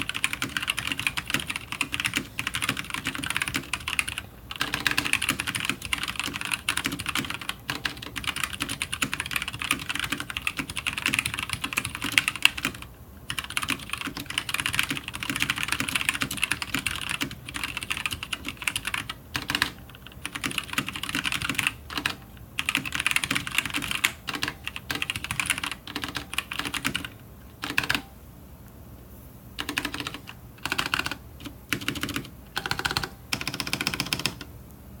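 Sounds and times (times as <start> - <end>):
fast typing on mechanical keyboard: 0.0 - 28.1, 29.6 - 34.5.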